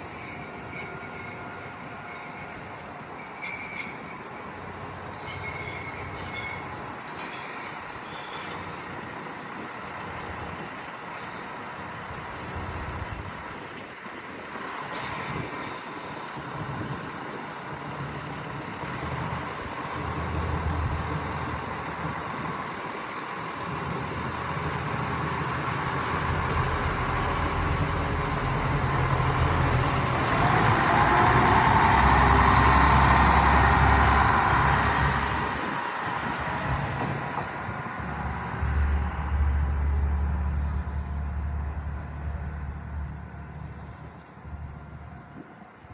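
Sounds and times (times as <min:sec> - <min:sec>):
diesel railcar passing: 0:00.0 - 0:45.9.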